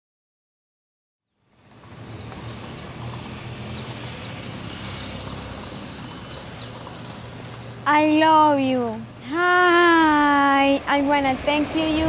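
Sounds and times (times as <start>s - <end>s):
small birds chirping: 1.3s - 12.0s.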